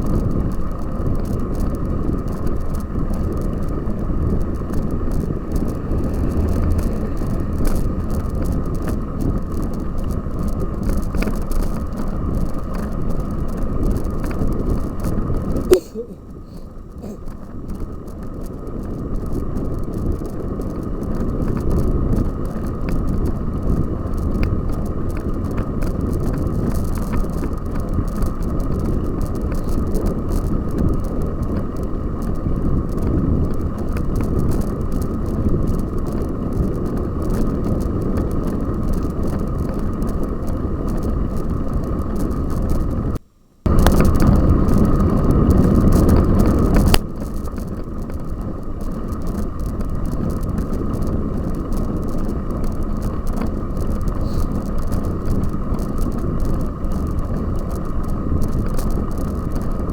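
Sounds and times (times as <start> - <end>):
bike riding rumble: 0.0 - 59.9.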